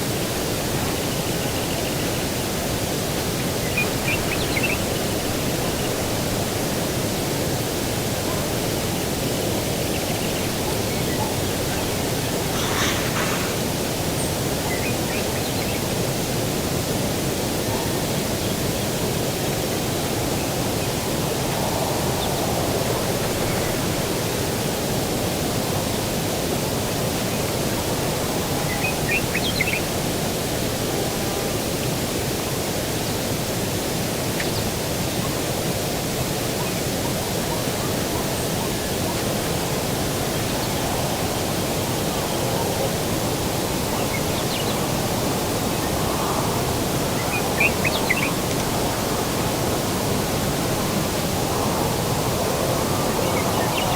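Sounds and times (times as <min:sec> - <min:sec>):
steady rushing outdoor ambience: 0:00.0 - 0:53.9.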